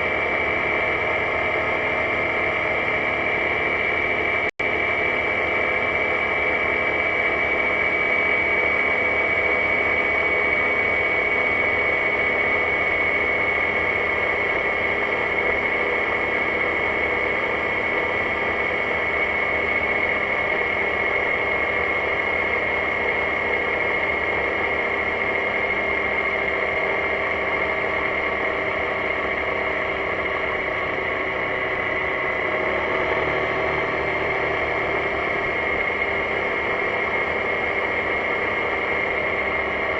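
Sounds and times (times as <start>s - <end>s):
scooter engine droning: 0.0s - 39.9s.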